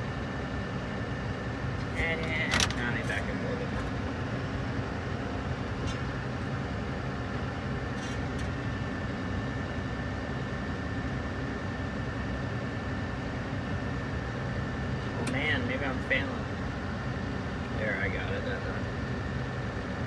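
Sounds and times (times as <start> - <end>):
thin steady whine: 0.0 - 20.0.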